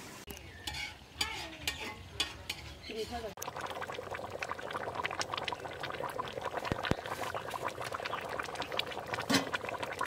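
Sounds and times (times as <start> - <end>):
curry bubbling in a pan: 1.7 - 10.0.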